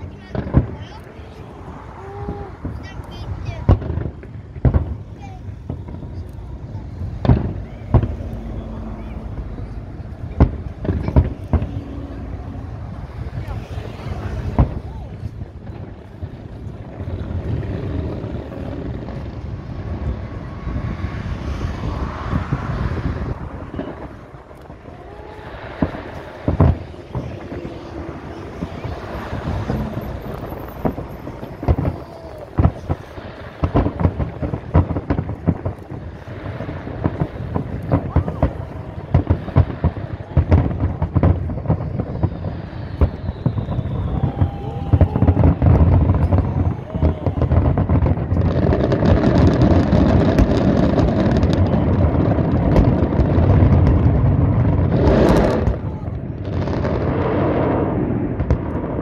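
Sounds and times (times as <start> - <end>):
crowd chatter: 0.0 - 58.1
fireworks booming: 0.0 - 59.0
low rumble: 0.0 - 59.0.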